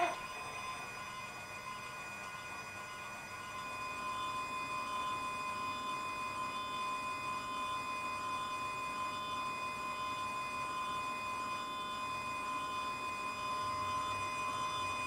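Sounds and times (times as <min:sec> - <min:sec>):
steady multi-tone whine: 0:00.0 - 0:15.0.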